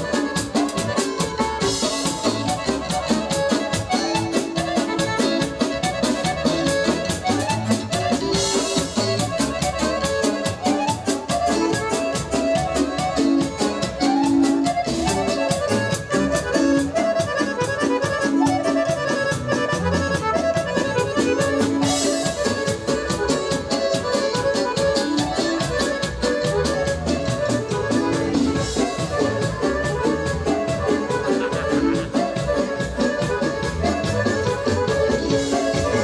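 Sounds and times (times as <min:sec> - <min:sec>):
accordion melody: 0:00.0 - 0:36.0
drum kit beat: 0:00.0 - 0:36.0
keyboard accompaniment: 0:00.0 - 0:36.0.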